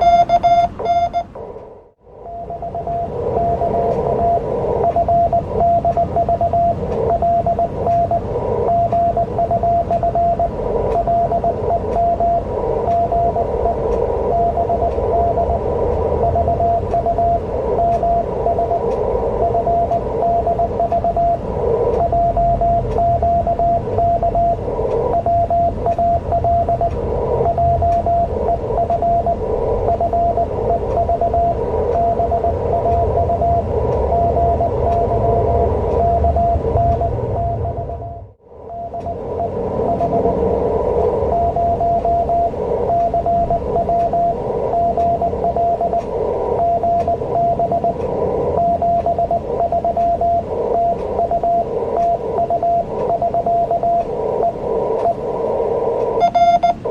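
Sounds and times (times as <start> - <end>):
morse code beeps: 0.0 - 1.5, 2.2 - 56.9
radio receiver hiss: 1.2 - 38.0, 38.6 - 56.9.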